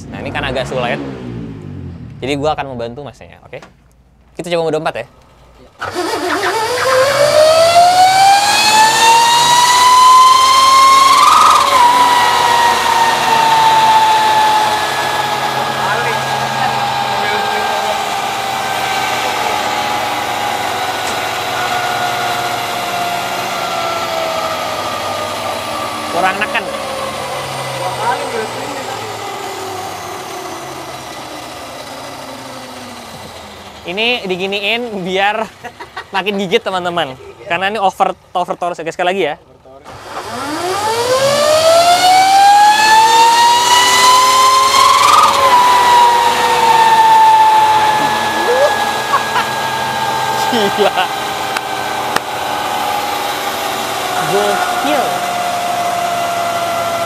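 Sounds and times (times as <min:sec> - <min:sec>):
electric motor whining: 0:05.8 - 0:35.9, 0:39.9 - 0:57.0.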